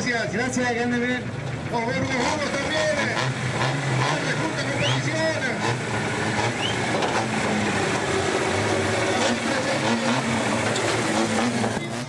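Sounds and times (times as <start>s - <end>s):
rally car engine at low revs: 0.0s - 12.0s.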